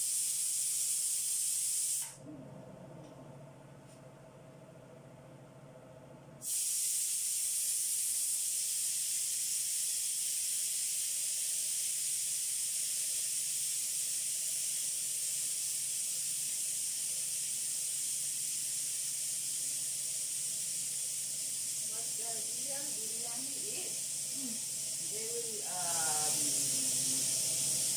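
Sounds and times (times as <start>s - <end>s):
pressure cooker steam hissing: 0.0s - 2.2s, 6.4s - 27.9s.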